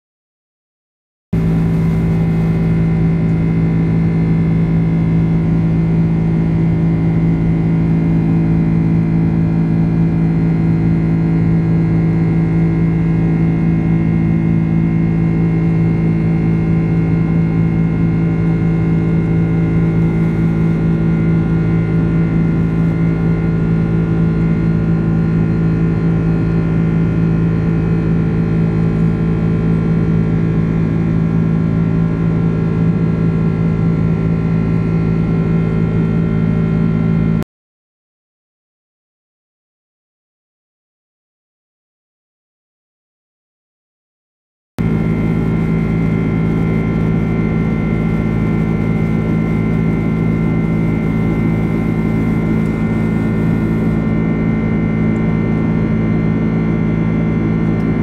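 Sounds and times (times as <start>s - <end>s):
jet engine drone in cabin: 1.4s - 37.4s, 44.8s - 58.0s.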